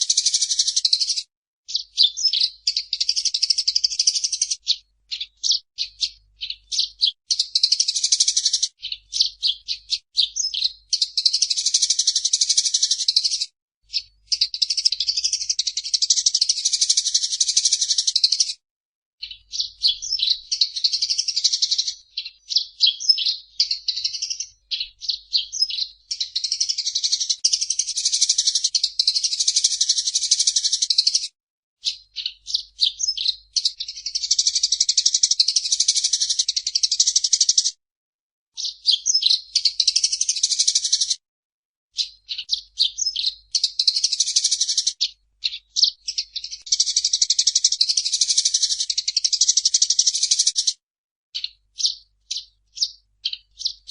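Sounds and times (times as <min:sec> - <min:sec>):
sparrow chirping and trilling: 0:00.0 - 0:18.6, 0:19.2 - 0:37.8, 0:38.5 - 0:41.2, 0:41.9 - 0:50.8, 0:51.4 - 0:53.9.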